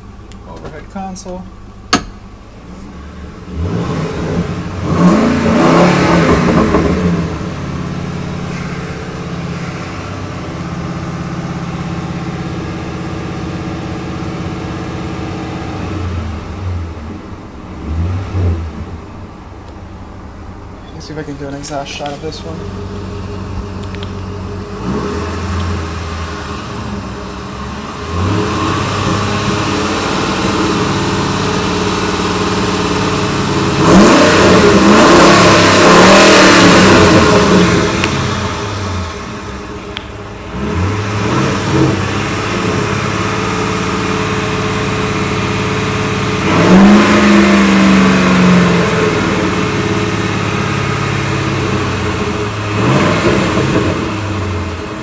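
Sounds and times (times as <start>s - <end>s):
engine revving: 2.6s - 19.1s, 21.1s - 55.0s.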